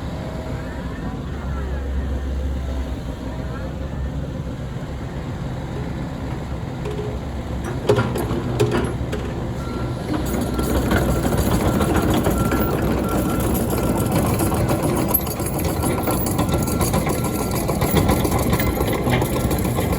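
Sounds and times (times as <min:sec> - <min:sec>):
excavator diesel engine hum: 0:00.0 - 0:19.9.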